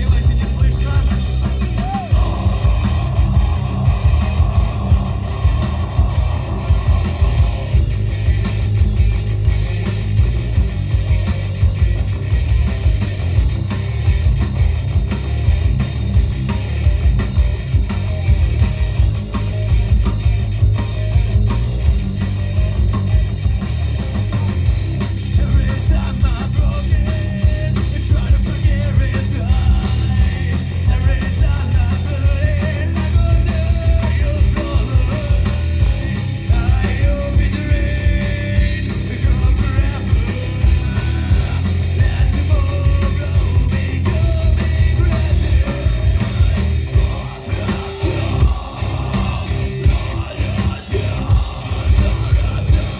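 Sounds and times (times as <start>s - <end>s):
rock band playing live: 0.0s - 52.9s.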